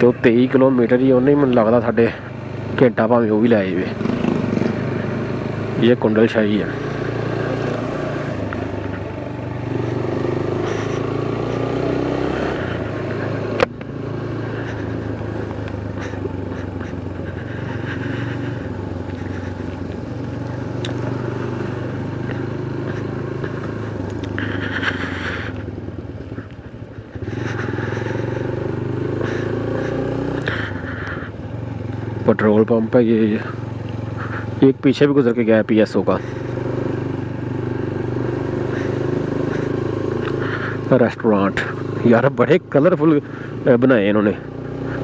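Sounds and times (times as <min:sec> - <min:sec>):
motorcycle engine running: 0:00.0 - 0:45.0
road and wind noise: 0:00.0 - 0:45.0.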